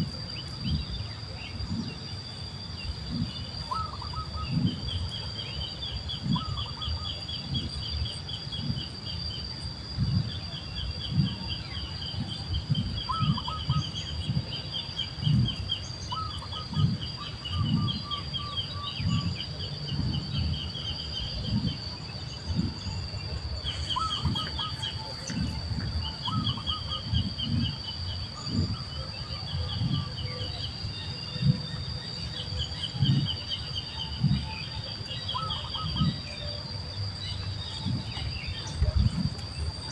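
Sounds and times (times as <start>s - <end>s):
birds chirping: 0.2s - 9.6s, 10.3s - 39.9s.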